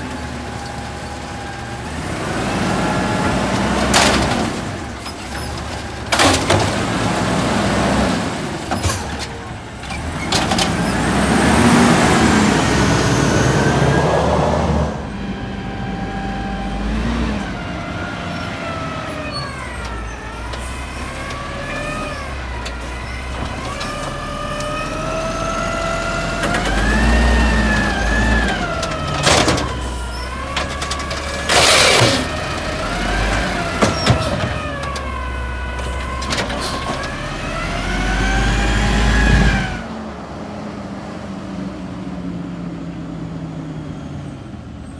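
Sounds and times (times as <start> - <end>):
garbage truck hydraulic whine: 0.0 - 39.9.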